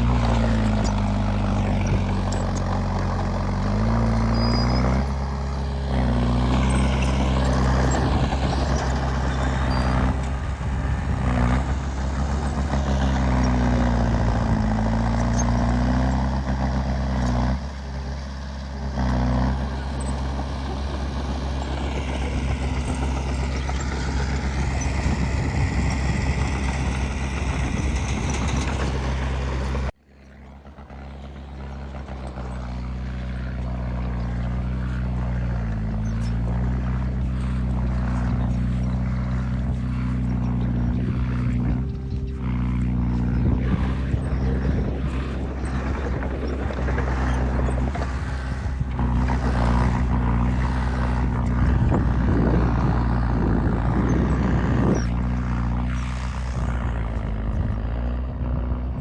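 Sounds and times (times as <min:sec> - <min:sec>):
heavy diesel engine working: 0:00.0 - 0:59.0.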